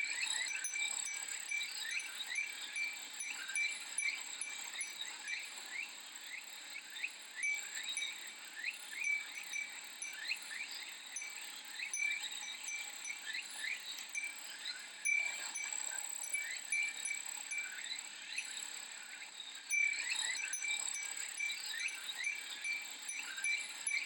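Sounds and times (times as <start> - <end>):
wind chime tinkling: 0.0 - 5.8, 7.4 - 19.0, 19.7 - 24.0.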